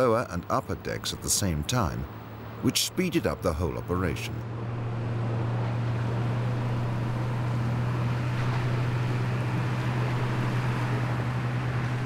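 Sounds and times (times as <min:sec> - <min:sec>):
heavy engine droning: 0:00.0 - 0:12.0.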